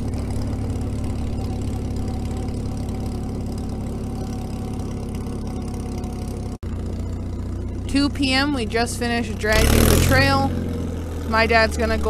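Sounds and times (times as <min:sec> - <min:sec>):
diesel engine running low speed: 0:00.0 - 0:12.0.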